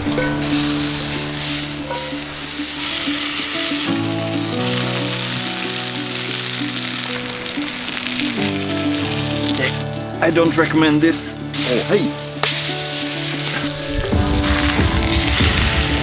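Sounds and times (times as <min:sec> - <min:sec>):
background music: 0:00.0 - 0:16.0
oil sizzling in a pan: 0:00.1 - 0:10.3, 0:11.3 - 0:16.0.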